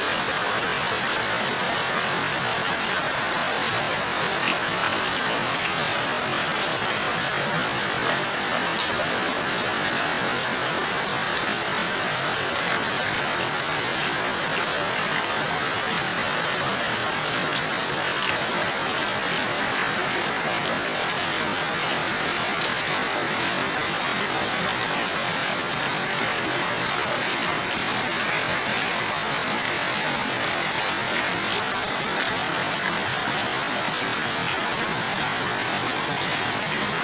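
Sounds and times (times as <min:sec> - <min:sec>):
heavy rain on water and leaves: 0:00.0 - 0:37.0.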